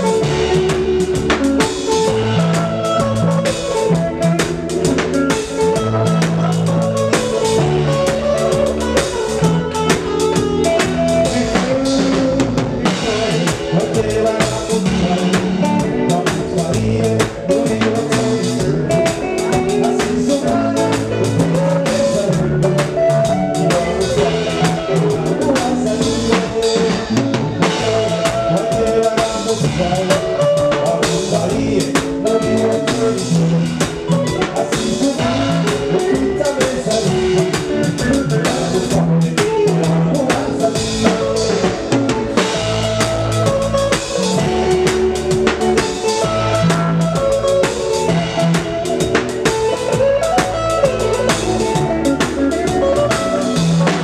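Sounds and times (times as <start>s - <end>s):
drum kit beat: 0.0s - 54.0s
electric bass: 0.0s - 54.0s
keyboard: 0.0s - 54.0s
man singing: 0.0s - 54.0s.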